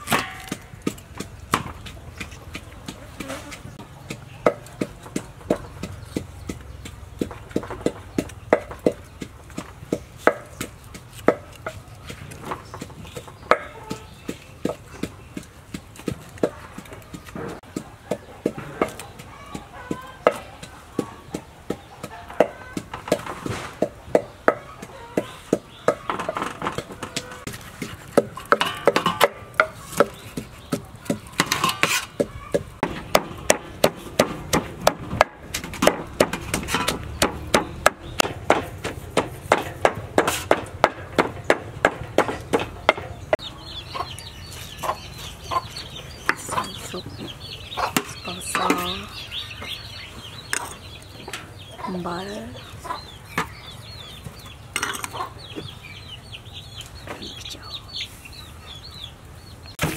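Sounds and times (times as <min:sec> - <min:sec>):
pestle pounding in wooden mortar: 0:00.0 - 0:51.3.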